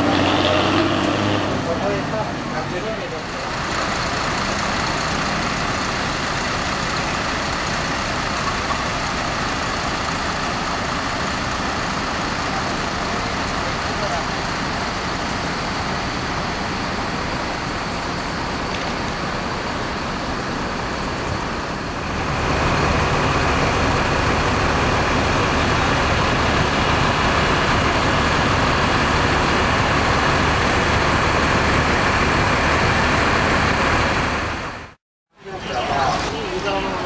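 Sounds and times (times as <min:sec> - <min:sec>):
heavy engine low hum: 0:00.0 - 0:37.0.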